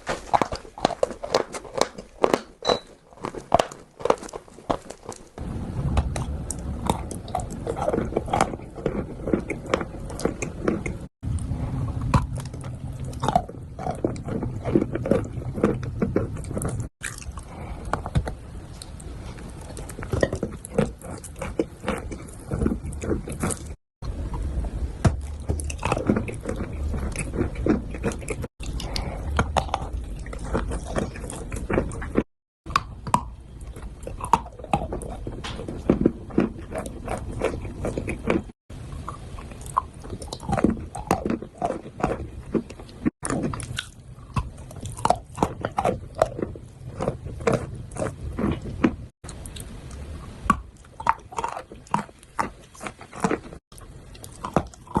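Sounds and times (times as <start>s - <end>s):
person chewing chalk crunching: 0.0s - 5.4s, 6.0s - 55.0s.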